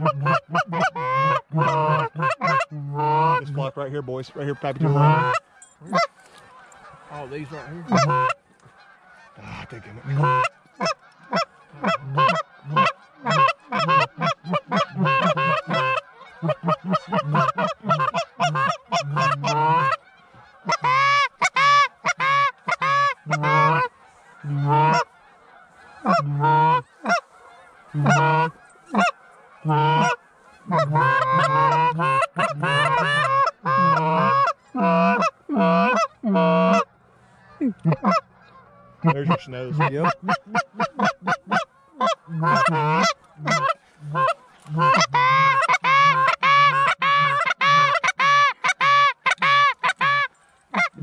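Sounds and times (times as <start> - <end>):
goose call honks and clucks: 0.0 - 51.0.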